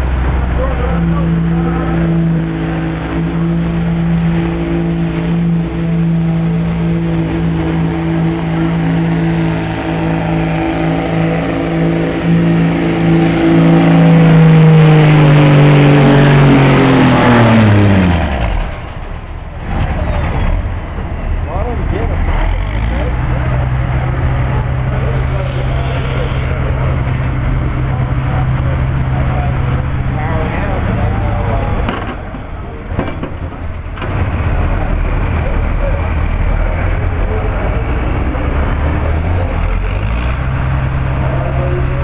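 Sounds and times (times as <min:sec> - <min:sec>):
diesel truck engine at high revs: 0:00.0 - 0:42.0.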